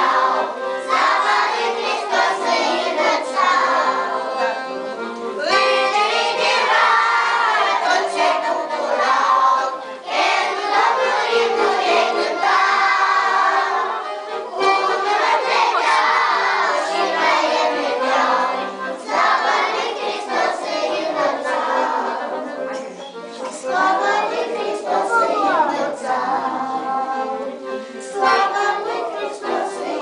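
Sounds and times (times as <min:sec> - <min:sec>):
young children singing: 0:00.0 - 0:30.0.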